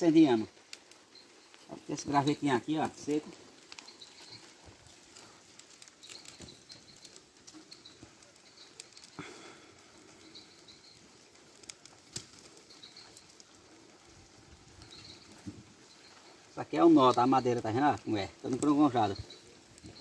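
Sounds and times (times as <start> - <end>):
bonfire crackling and popping: 0.0 - 20.0
birds chirping: 0.2 - 11.4, 14.8 - 20.0.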